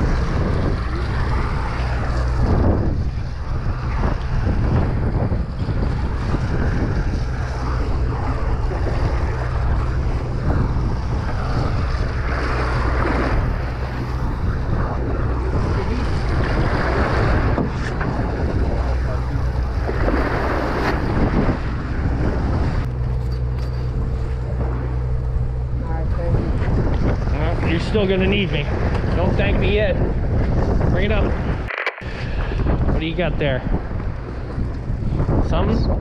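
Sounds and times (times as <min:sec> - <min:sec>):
boat engine low drone: 0:00.0 - 0:36.0
water washing along boat hull: 0:00.0 - 0:36.0
wind buffeting microphone: 0:00.0 - 0:36.0.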